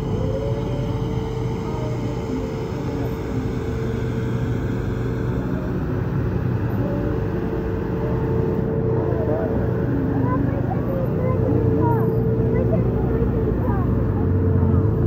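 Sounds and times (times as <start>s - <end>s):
mechanical drone with hum: 0.0s - 15.0s.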